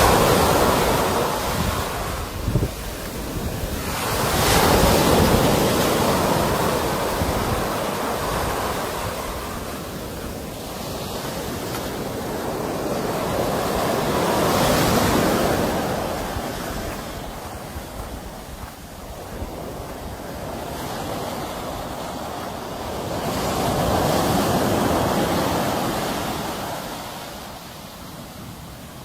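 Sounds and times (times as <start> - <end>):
sea waves washing on shore: 0.0 - 29.0.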